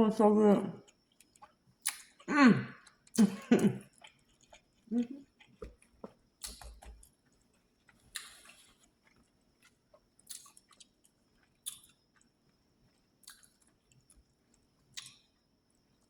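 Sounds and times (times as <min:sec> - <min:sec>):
person chewing: 0:00.9 - 0:15.3.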